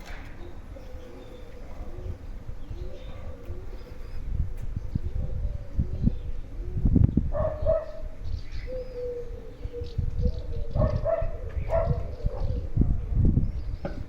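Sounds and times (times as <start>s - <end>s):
dove cooing: 0.0s - 13.1s.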